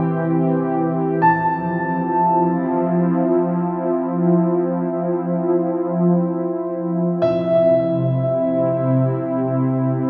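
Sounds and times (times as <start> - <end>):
ambient music with sustained chords: 0.0 - 10.0.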